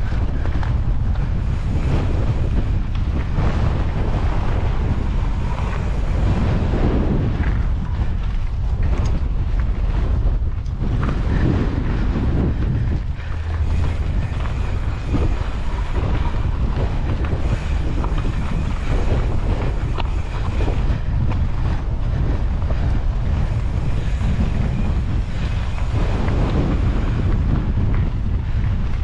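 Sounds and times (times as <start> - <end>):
bike tyres clicking on rock: 0.0 - 29.0
wind on microphone: 0.0 - 29.0.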